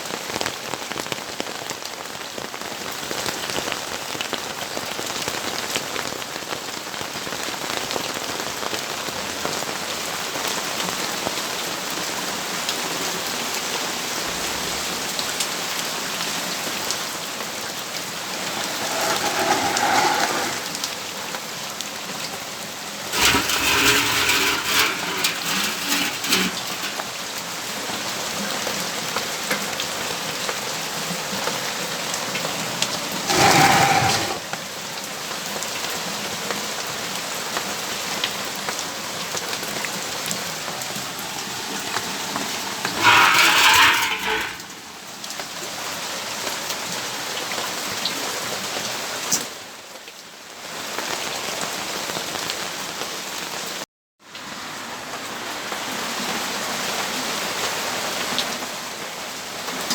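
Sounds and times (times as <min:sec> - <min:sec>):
rain falling: 0:00.0 - 0:53.8, 0:54.4 - 0:59.9.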